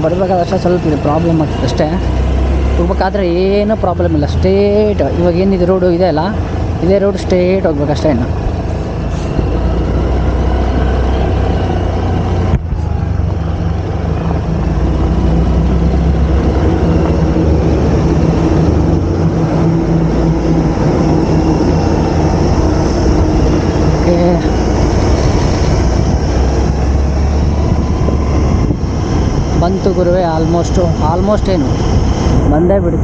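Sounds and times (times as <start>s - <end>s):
motorbike engine cruising: 0.0s - 33.0s
wind rushing over microphone: 0.0s - 33.0s.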